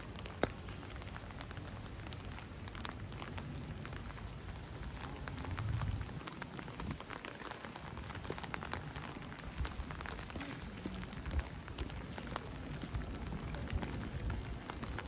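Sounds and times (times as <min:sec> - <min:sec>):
heavy rain hiss: 0:00.0 - 0:15.0
raindrops ticking: 0:00.0 - 0:15.0.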